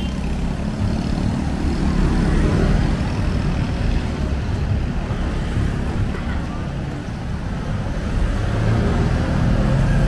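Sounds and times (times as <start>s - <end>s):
steady low traffic rumble: 0.0s - 10.0s.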